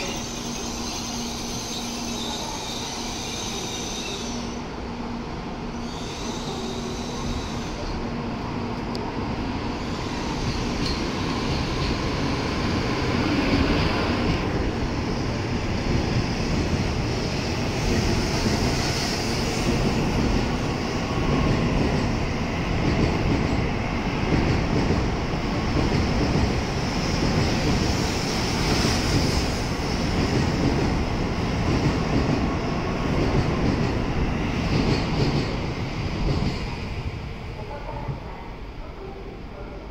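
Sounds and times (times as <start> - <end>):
train rushing rumble: 0.0 - 39.9.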